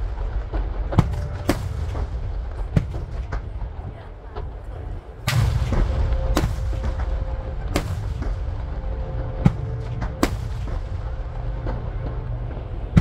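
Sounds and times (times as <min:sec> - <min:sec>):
firework shells booming: 0:00.0 - 0:13.0
low rumble of bursts: 0:00.0 - 0:13.0.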